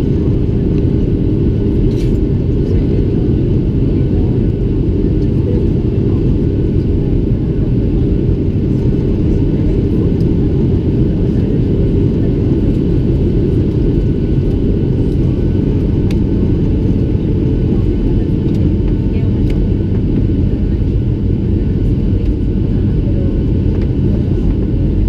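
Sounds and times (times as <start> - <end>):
jet engine and airflow rumble: 0.0 - 25.0.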